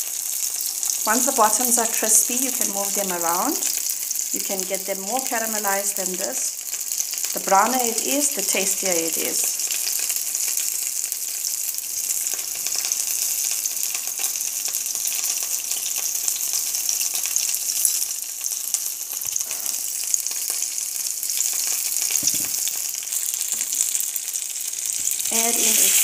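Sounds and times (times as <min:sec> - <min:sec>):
hot oil sizzling in a frying pan: 0:00.0 - 0:26.0.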